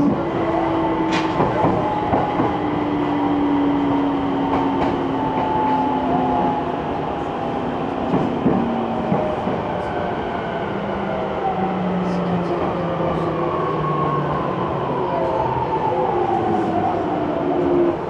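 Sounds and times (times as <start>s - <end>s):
electric train rumble: 0.0s - 18.0s.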